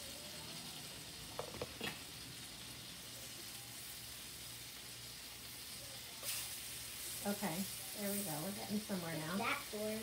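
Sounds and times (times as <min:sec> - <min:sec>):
batter sizzling in a pan: 0:00.0 - 0:10.0.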